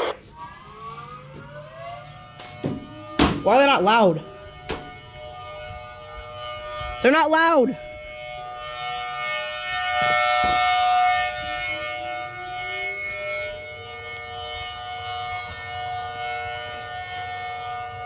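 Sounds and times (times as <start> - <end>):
siren through horn speakers: 0.0 - 18.0.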